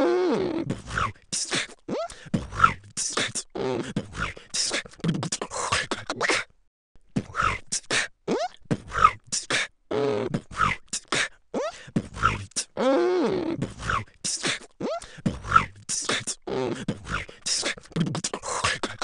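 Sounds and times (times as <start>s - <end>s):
person beatboxing: 0.4s - 6.5s, 7.1s - 19.0s.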